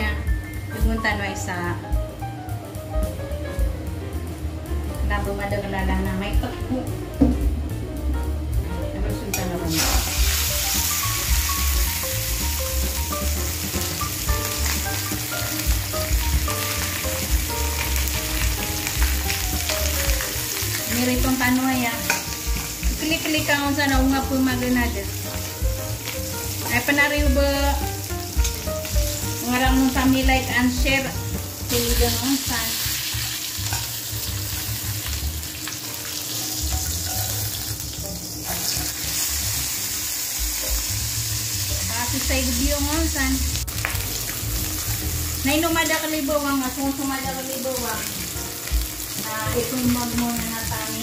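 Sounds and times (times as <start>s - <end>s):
chicken sizzling in a pan: 9.3s - 51.0s.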